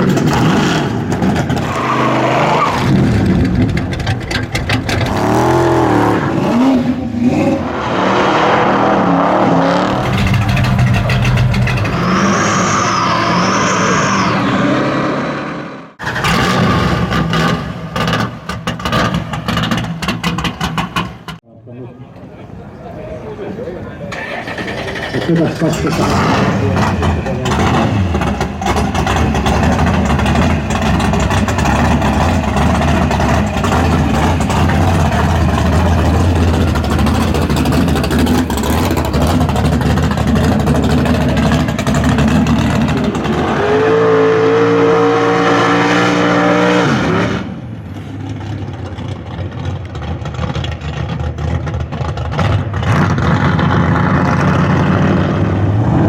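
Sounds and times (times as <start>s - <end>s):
car engine revving: 0.0s - 21.4s, 23.9s - 56.0s.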